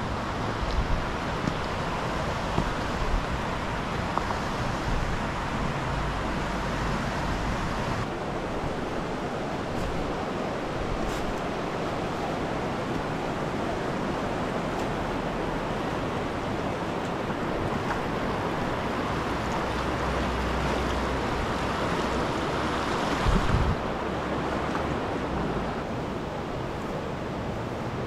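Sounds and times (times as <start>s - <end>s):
creek water rushing over rocks: 0.0s - 28.0s.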